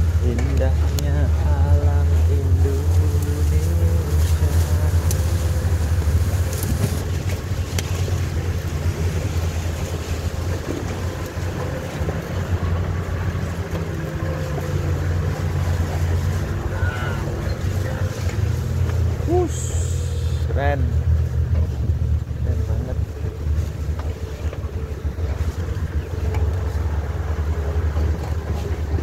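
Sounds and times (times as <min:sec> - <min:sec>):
engine running at low speed: 0:00.0 - 0:29.0.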